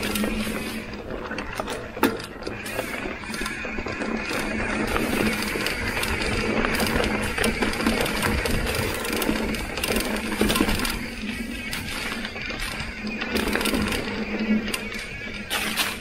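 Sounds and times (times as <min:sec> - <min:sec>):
bike clicks and rattles: 0:00.0 - 0:16.0
bike tyres on dirt and leaves: 0:00.0 - 0:16.0
rear hub ratcheting buzz: 0:00.0 - 0:16.0.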